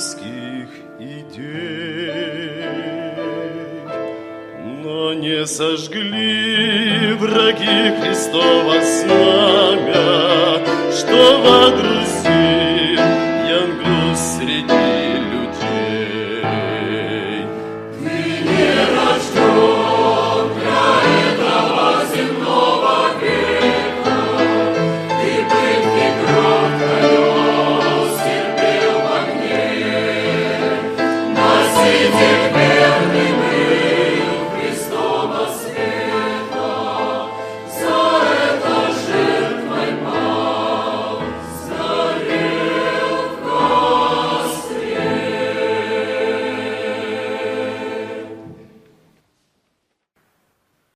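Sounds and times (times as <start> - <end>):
choir singing a hymn: 0.0 - 49.0.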